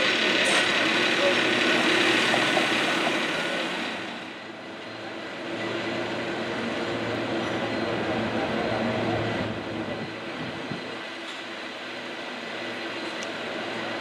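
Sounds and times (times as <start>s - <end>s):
cable car rail rumble and rattle: 0.0s - 14.0s.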